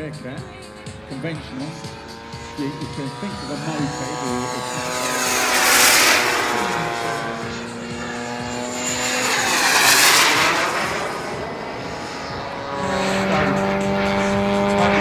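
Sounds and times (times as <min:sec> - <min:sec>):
model jet turbine whine: 0:00.0 - 0:15.0
piston engine drone: 0:00.0 - 0:15.0.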